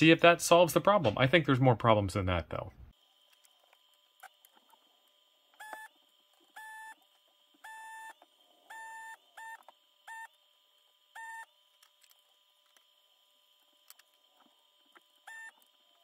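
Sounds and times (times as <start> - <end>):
vacuum pump buzzing: 2.9 - 16.0.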